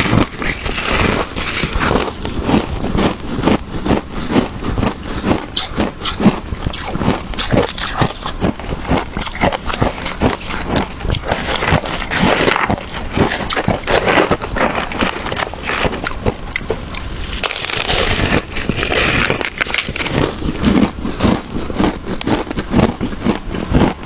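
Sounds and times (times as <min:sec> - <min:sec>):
shaved ice being chewed: 0:00.0 - 0:24.0.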